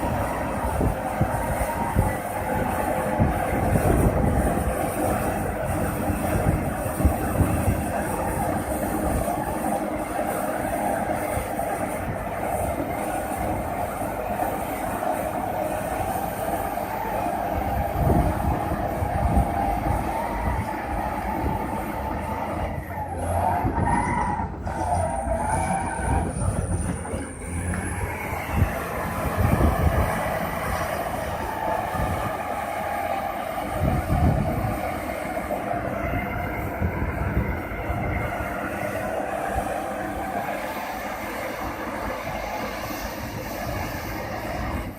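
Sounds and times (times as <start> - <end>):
bulldozer diesel engine under load: 0.0 - 44.9
high wavering whine: 0.0 - 44.9
tracks clanking: 0.0 - 44.9.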